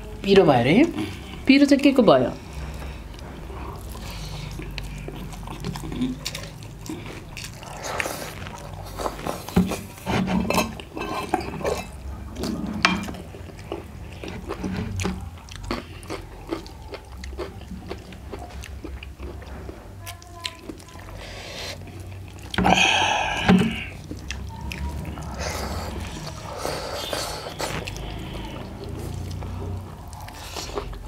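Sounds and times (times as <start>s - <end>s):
people chewing food: 0.0s - 31.0s.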